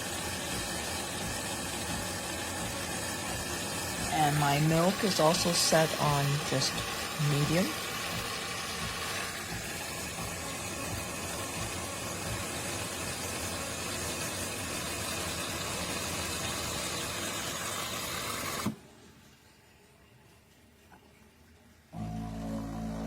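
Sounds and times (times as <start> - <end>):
milk frother hissing: 0.0 - 18.8.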